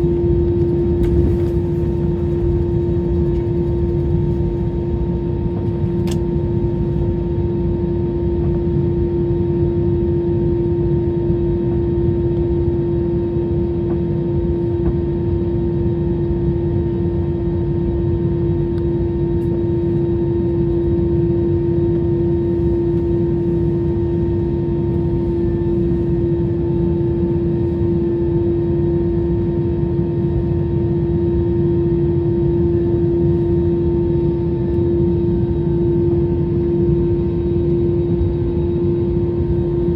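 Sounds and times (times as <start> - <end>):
airliner cabin noise: 0.0 - 9.7, 17.5 - 39.9.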